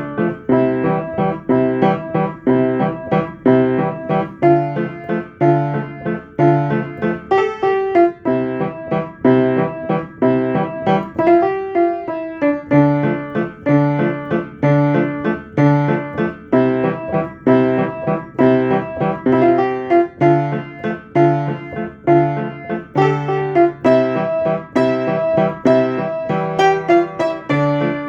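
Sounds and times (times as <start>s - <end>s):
piano playing a repeating riff: 0.0s - 28.0s.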